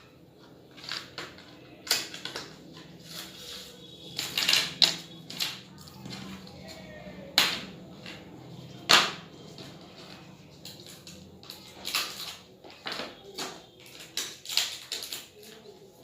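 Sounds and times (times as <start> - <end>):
packaging clicks and taps: 0.4 - 3.3, 4.1 - 8.2, 8.8 - 15.7.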